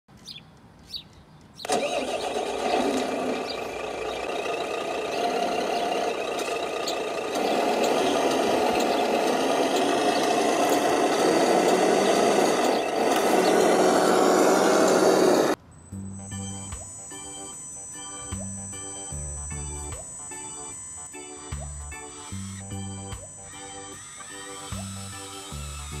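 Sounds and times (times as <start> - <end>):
toy truck motor running: 1.6 - 15.6, 16.4 - 26.0.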